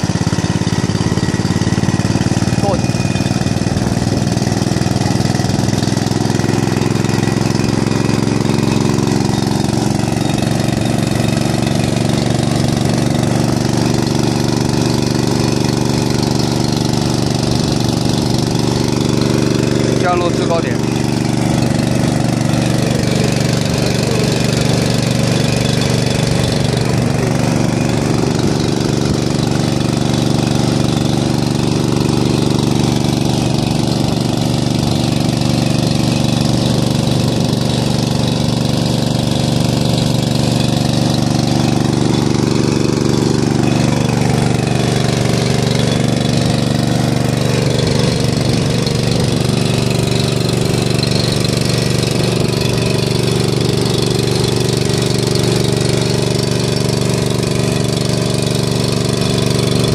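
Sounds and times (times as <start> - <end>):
petrol pump engine running: 0.0 - 59.9.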